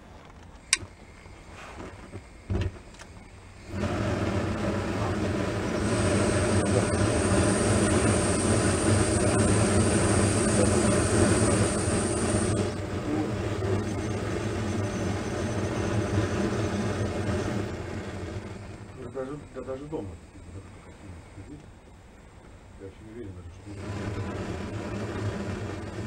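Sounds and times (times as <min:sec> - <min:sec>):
gas burner flame noise: 0:00.0 - 0:26.0
high hiss: 0:00.6 - 0:22.0.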